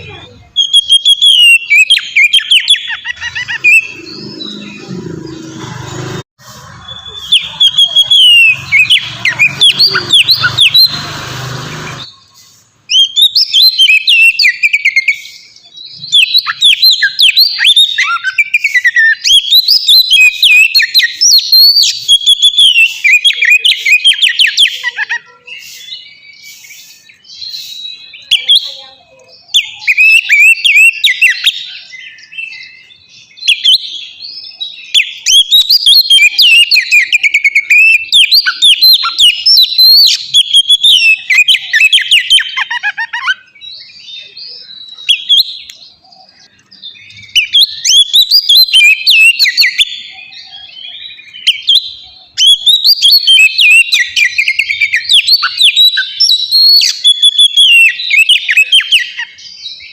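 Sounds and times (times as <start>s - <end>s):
bird singing chattering phrases: 0.0s - 59.9s.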